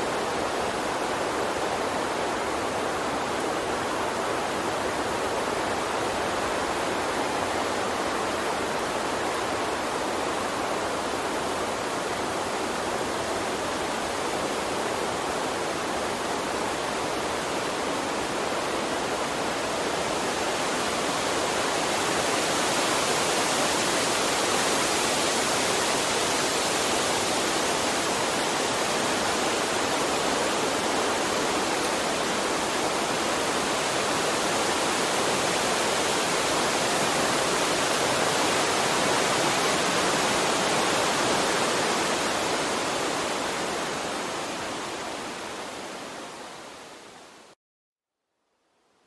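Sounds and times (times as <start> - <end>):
stream flowing: 0.0 - 47.6.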